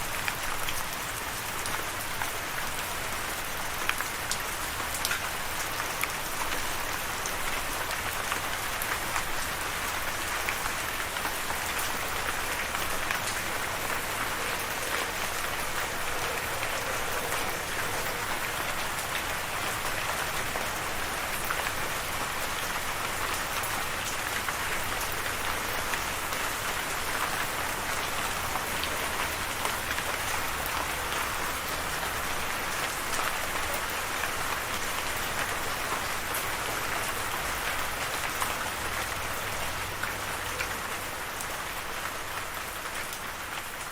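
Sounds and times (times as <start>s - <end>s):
raindrops ticking on a surface: 0.0s - 43.9s
steady rain hiss: 0.0s - 43.9s.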